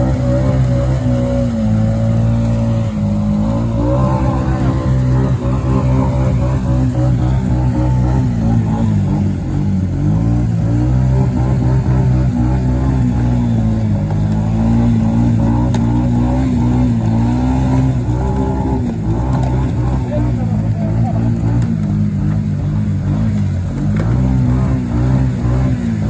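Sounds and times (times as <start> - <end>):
atv engine revving: 0.0 - 26.0
wheels churning water: 0.0 - 26.0.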